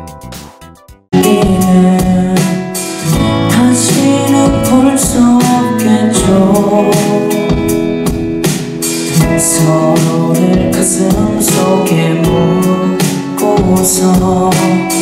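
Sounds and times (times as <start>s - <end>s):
slow ballad music: 0.0s - 15.0s
young man singing: 1.2s - 8.1s, 8.9s - 15.0s.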